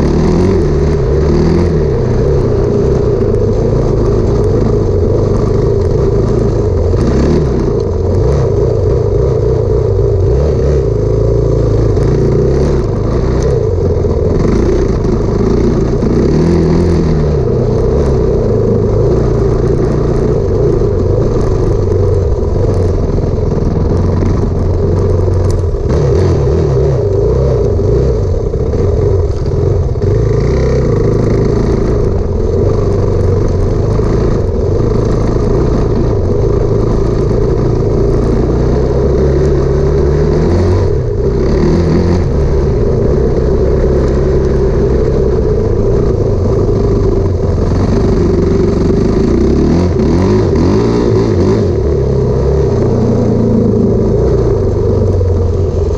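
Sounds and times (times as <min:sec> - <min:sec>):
motorcycle engine running hard: 0:00.0 - 0:55.9.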